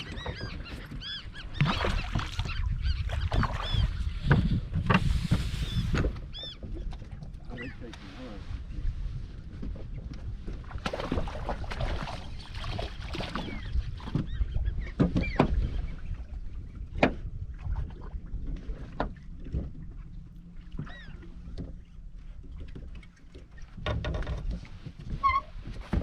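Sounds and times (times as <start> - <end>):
knocks and splashes around boat: 0.0 - 26.0
low rumble of wind and water: 0.0 - 26.0.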